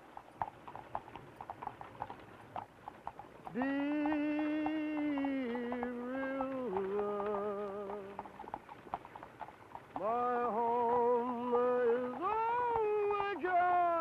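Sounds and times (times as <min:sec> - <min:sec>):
horse hooves clip-clopping: 0:00.0 - 0:14.0.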